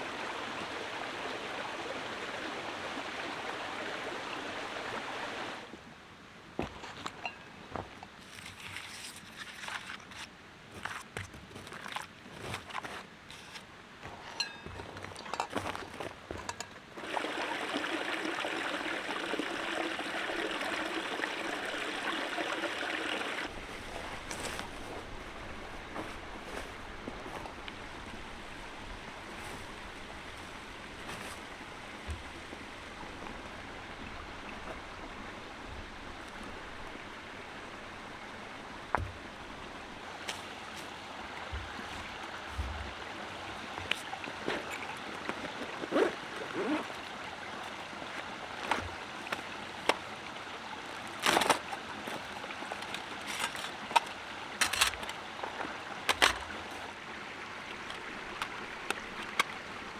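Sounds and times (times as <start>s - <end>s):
stream rushing: 0.0s - 7.9s, 12.4s - 59.9s.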